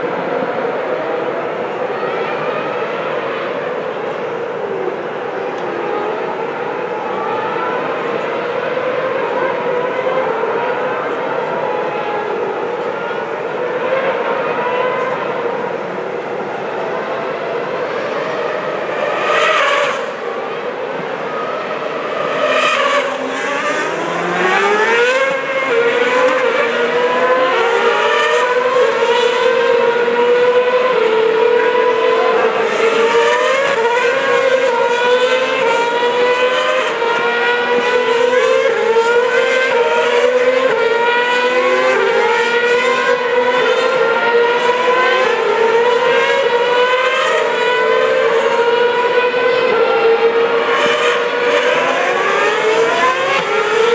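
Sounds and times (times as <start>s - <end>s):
racing cars accelerating: 0.0s - 53.9s.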